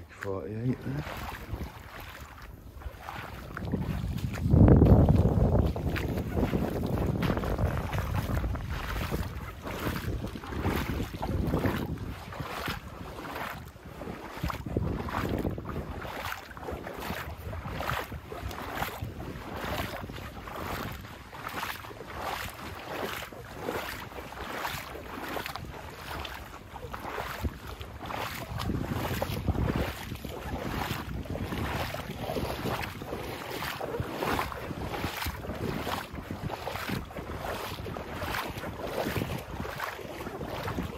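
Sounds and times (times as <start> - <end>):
footsteps splashing through water: 0.0 - 40.9
wind noise on microphone: 0.0 - 40.9.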